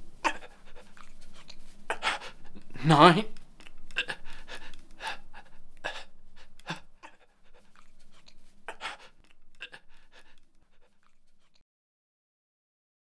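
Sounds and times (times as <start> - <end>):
person panting: 0.2 - 3.0, 3.6 - 11.6.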